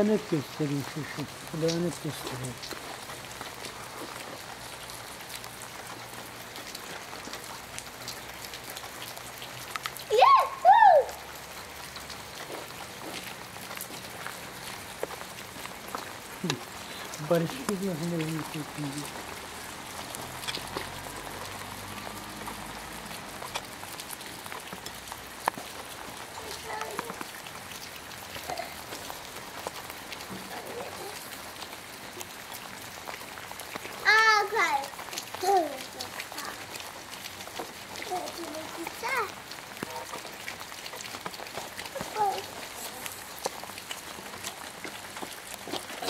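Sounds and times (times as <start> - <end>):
raindrops ticking: 0.0 - 46.0
steady rain hiss: 0.0 - 46.0.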